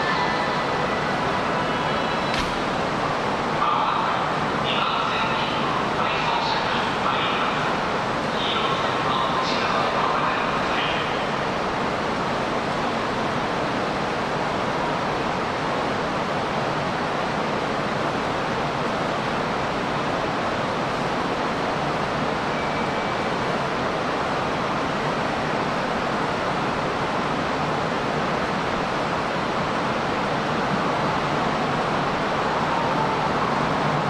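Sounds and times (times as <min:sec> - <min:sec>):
train rushing through tunnel: 0:00.0 - 0:34.0.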